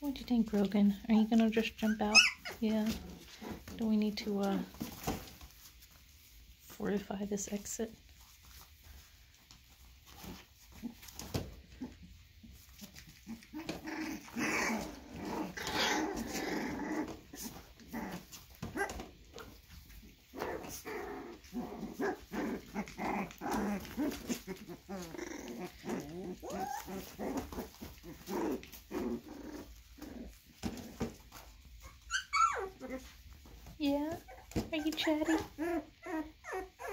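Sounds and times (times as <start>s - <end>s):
puppies growling and whining: 1.2s - 6.0s, 9.8s - 36.9s.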